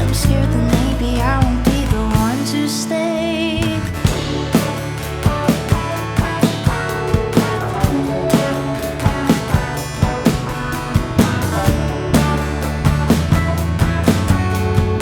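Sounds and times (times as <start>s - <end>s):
drum kit beat: 0.0s - 2.6s, 4.0s - 15.0s
bass: 0.0s - 15.0s
guitar: 0.0s - 15.0s.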